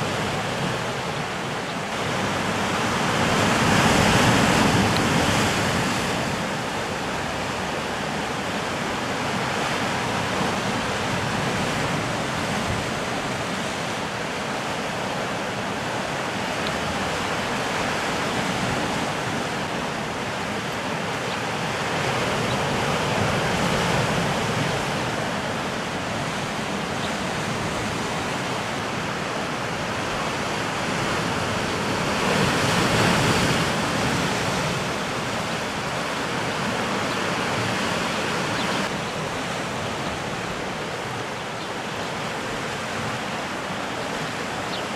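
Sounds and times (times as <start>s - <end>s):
surf breaking on rocky shore: 0.0s - 44.9s.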